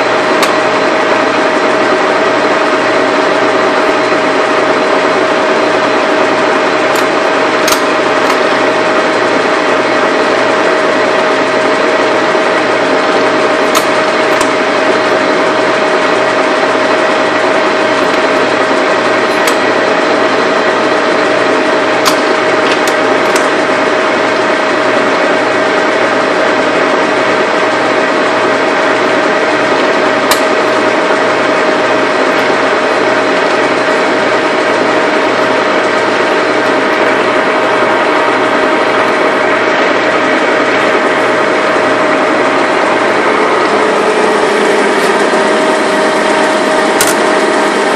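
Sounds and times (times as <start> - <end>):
lathe running with whine: 0.0 - 47.9.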